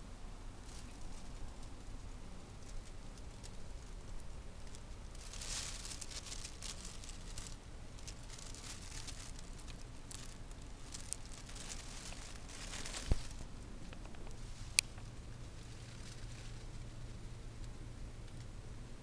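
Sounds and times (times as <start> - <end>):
steady low hum: 0.0 - 19.0
leaves rustling against microphone: 0.5 - 17.6.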